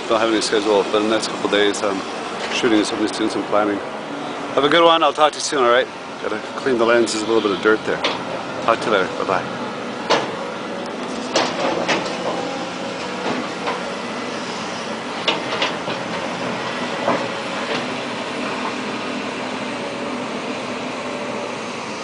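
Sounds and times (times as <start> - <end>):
city background noise: 0.0 - 22.0.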